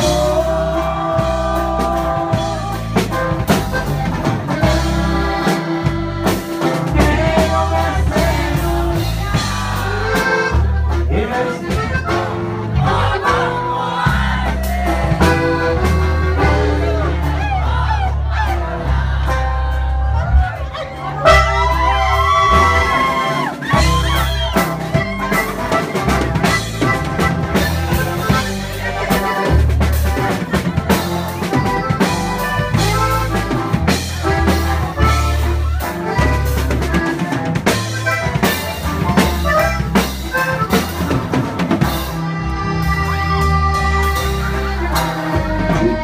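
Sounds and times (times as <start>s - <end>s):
accordion melody: 0.0s - 46.0s
drum kit beat: 0.0s - 46.0s
electric bass: 0.0s - 46.0s.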